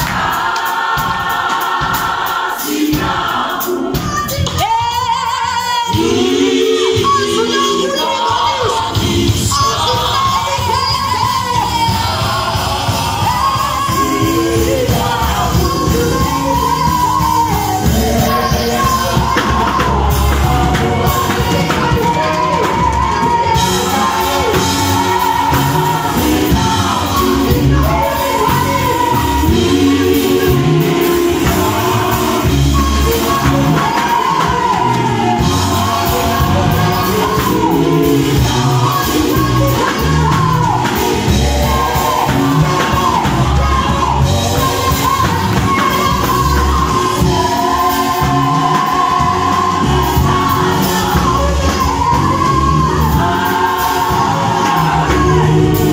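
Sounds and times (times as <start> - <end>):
live singing with band: 0.0 - 55.9.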